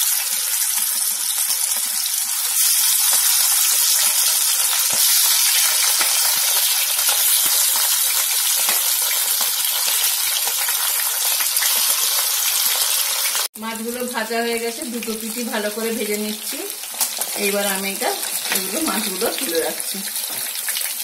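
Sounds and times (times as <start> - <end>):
oil crackles and pops: 0.0 - 13.5, 16.6 - 21.0
fish sizzling in hot oil: 0.0 - 21.0.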